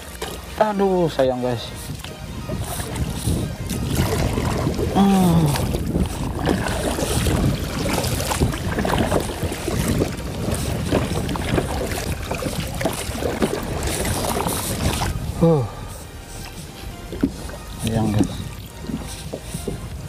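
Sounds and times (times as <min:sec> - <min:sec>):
water lapping against hull: 0:00.0 - 0:20.0
wind buffeting microphone: 0:00.0 - 0:20.0.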